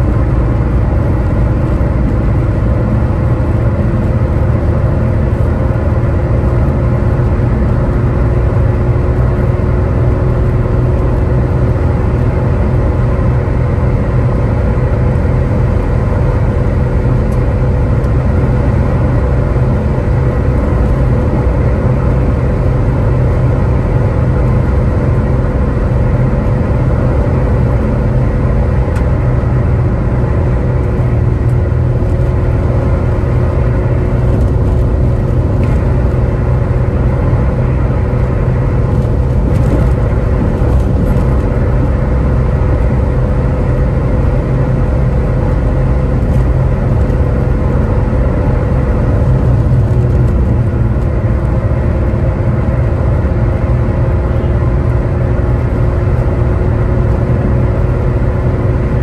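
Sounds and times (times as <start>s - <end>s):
car engine and road drone in cabin: 0.0s - 59.0s.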